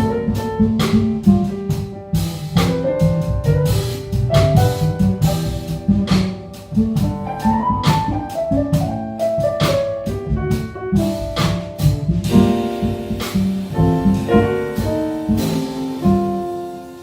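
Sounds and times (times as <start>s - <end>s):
drum kit with cymbals: 0.0s - 17.0s
jazz piano: 0.0s - 17.0s
plucked bass: 0.0s - 17.0s.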